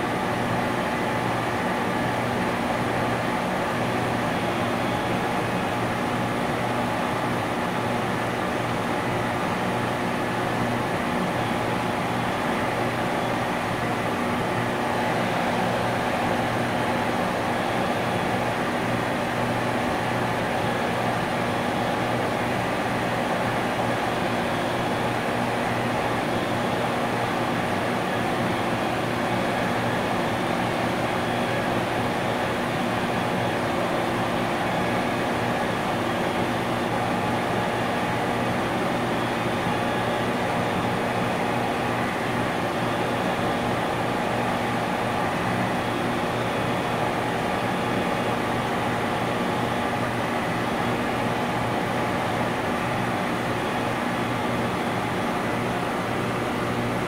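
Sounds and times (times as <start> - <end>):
industrial compressor humming: 0.0 - 57.0.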